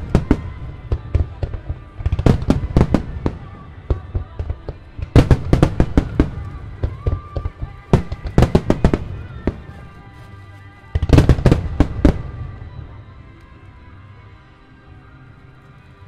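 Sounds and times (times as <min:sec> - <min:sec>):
fireworks bursting: 0:00.0 - 0:13.1
music: 0:00.0 - 0:16.0.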